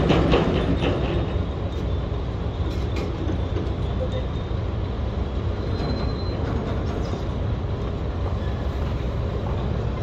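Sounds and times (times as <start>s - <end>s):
construction machinery rumbling: 0.0s - 10.0s.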